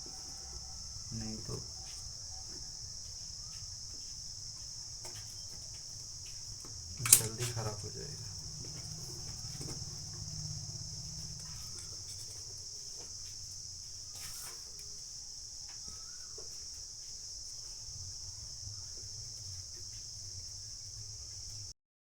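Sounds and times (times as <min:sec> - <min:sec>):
insect chirring: 0:00.0 - 0:21.7.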